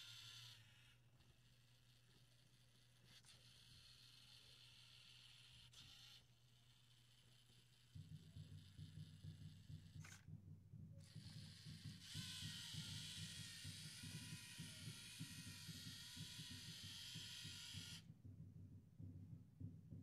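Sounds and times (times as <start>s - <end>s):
small electric motors whining: 0.0s - 10.2s, 11.0s - 18.1s.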